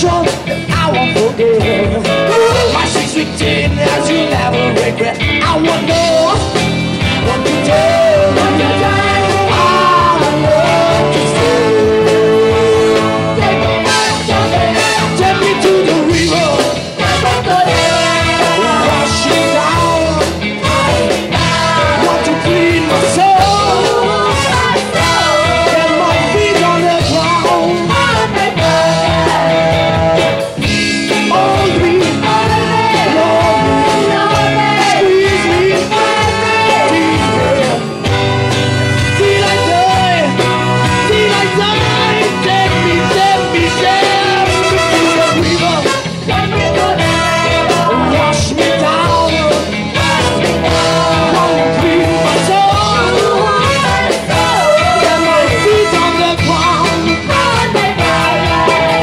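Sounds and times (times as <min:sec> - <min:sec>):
person singing: 0:00.0 - 0:06.6, 0:07.2 - 0:38.0, 0:39.0 - 0:59.0
live soul band playing: 0:00.0 - 0:59.0
brass section: 0:07.2 - 0:59.0.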